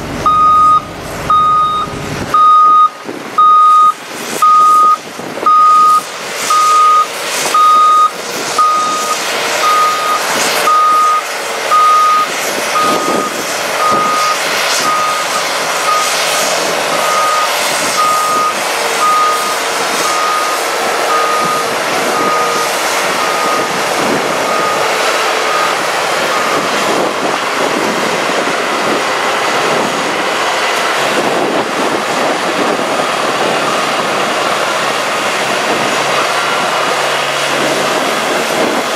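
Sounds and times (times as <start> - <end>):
truck reversing alarm beeping: 0.0 - 28.0, 32.5 - 36.4
diesel engine running: 0.0 - 38.9.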